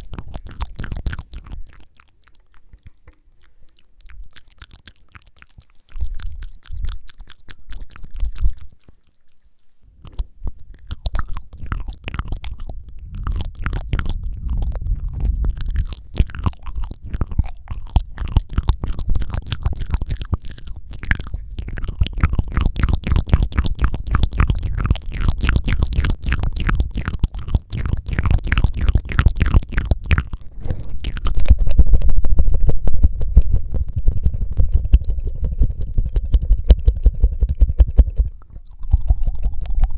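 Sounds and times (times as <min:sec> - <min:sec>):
wet tongue flutters and clicks: 0:00.0 - 0:39.9.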